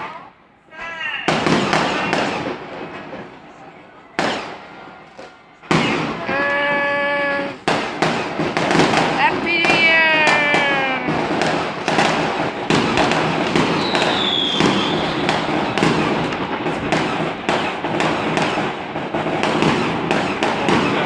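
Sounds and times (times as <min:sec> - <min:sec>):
firecrackers crackling bangs: 0:00.1 - 0:21.0
firework high whistle: 0:00.6 - 0:21.0.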